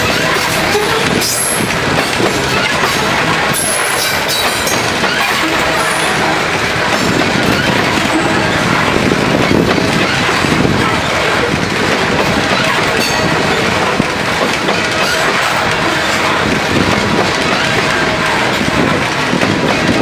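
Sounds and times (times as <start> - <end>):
freight train wheels rumbling on rails: 0.0 - 20.0.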